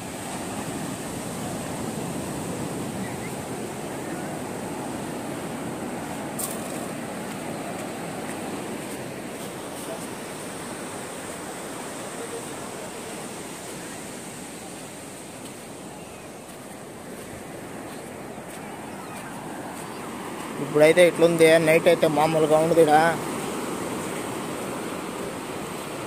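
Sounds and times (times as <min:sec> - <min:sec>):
sea surf breaking on sand: 0:00.0 - 0:26.0.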